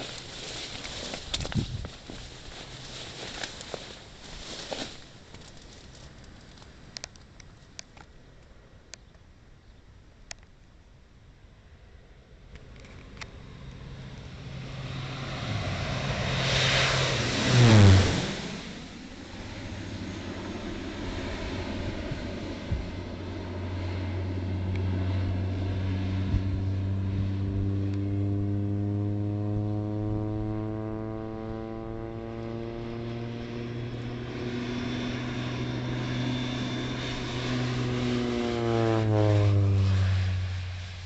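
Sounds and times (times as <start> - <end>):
propeller plane droning past: 0.0 - 41.0.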